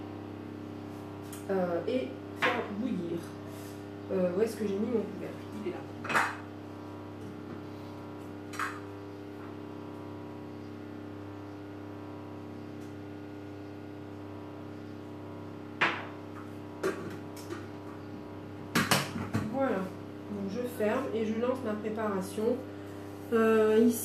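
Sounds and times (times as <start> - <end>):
steady hum of held tones: 0.0 - 24.0.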